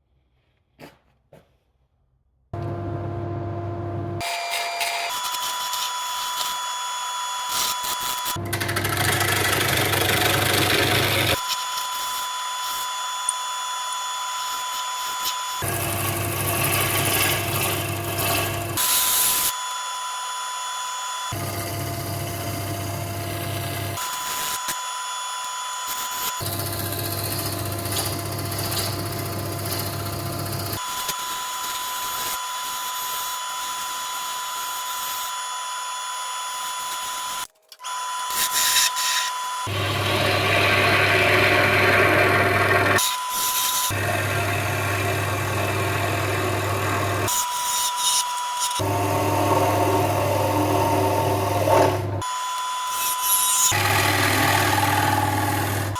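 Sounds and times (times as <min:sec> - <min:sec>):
wood lathe motor hum: 0:04.2 - 0:32.0, 0:32.9 - 0:55.9
turning tool cutting wood: 0:04.2 - 0:55.9.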